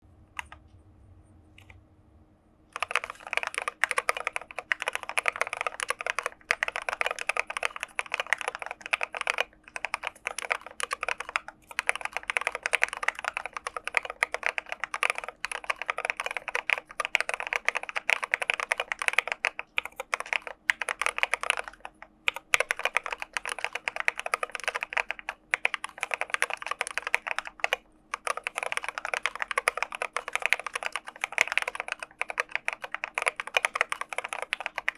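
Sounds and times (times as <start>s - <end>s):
fast typing on mechanical keyboard: 2.8s - 34.9s.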